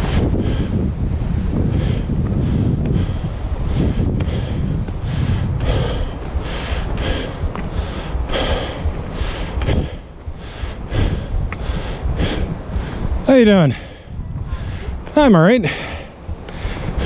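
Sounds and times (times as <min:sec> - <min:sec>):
person breathing hard: 0:00.0 - 0:17.0
wind rumble on microphone: 0:00.0 - 0:17.0.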